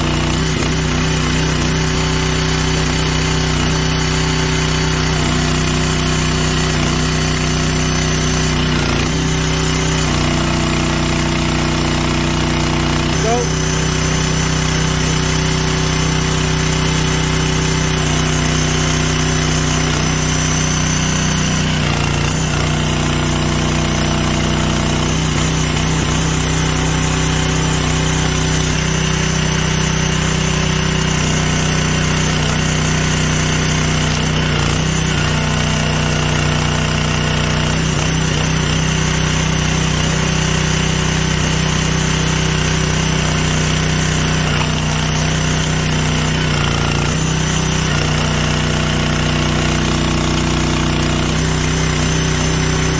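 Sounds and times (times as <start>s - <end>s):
petrol engine running steadily: 0.0s - 52.9s.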